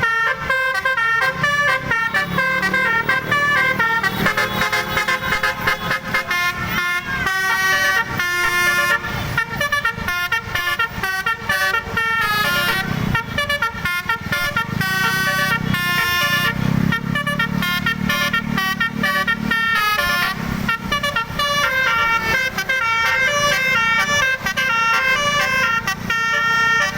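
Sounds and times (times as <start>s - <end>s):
melodic bus horn: 0.0s - 26.9s.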